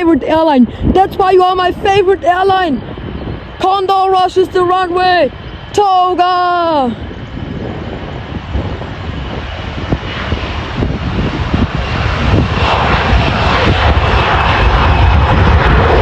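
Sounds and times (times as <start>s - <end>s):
jet engines at takeoff thrust: 0.0s - 16.0s.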